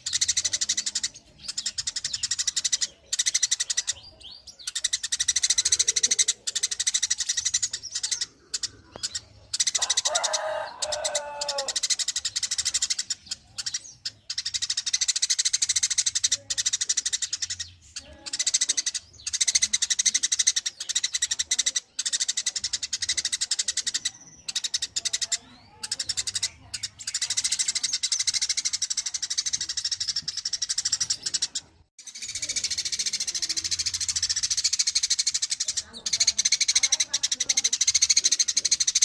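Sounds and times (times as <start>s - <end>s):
high-pitched chattering trill: 0.0s - 39.0s.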